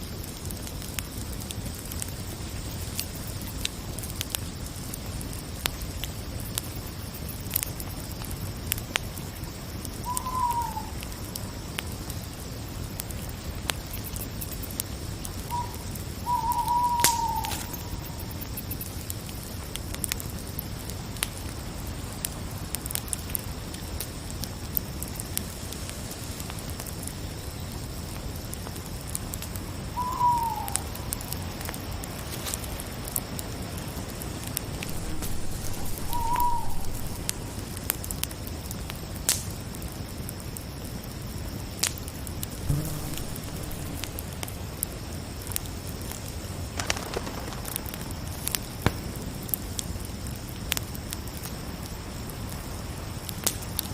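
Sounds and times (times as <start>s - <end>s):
campfire crackling and popping: 0.0s - 30.0s, 30.7s - 53.9s
crickets chirring: 0.0s - 53.9s.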